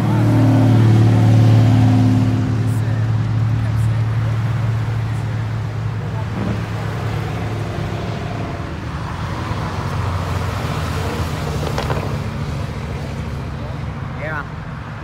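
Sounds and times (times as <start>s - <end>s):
car exhaust rumble: 0.0s - 15.0s
road noise: 0.0s - 15.0s.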